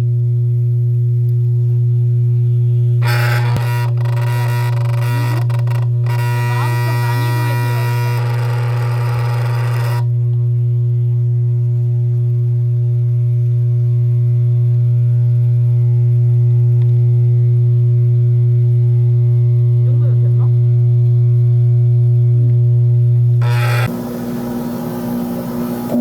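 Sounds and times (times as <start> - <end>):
loud electric hum: 0.0 - 26.0.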